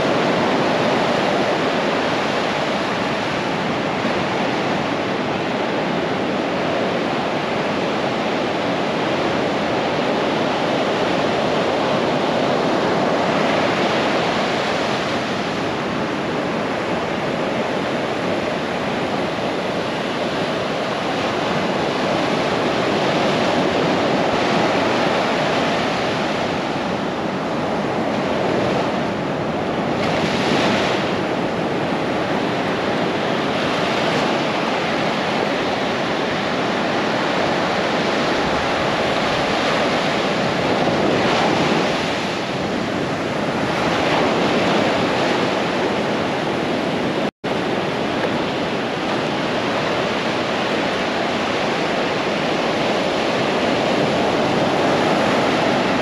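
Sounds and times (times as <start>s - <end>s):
surf breaking and washing: 0.0s - 56.0s
wave crash: 11.0s - 56.0s.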